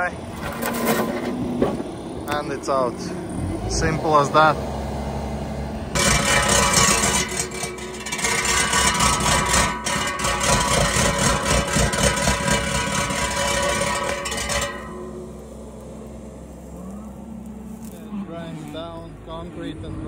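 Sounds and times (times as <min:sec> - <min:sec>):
rotor rattling on stony ground: 0:00.0 - 0:04.5, 0:05.9 - 0:19.9.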